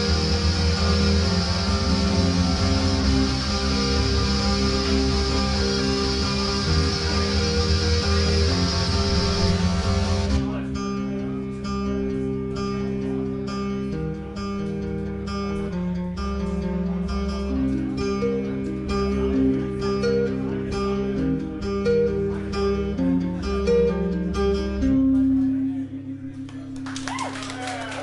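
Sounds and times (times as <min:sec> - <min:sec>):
looping bass notes: 0:00.0 - 0:26.4
plucked guitar notes: 0:00.0 - 0:27.0.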